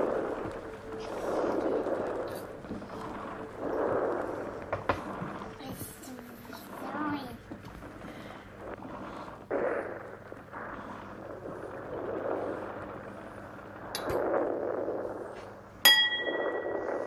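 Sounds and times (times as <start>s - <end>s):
breathy rushing noise: 0.0s - 15.8s.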